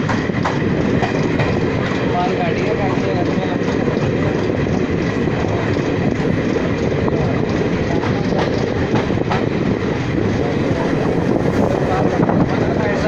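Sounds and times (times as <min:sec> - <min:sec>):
train wheels rumbling on track: 0:00.0 - 0:13.0
wheels clacking over rail joints: 0:00.0 - 0:13.0.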